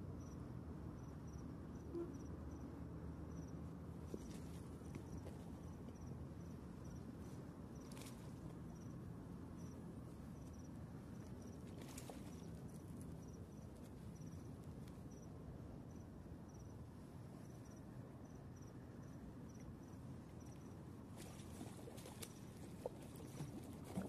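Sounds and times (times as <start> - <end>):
crickets chirping: 0.0 - 24.0
low outdoor rumble: 0.0 - 24.0.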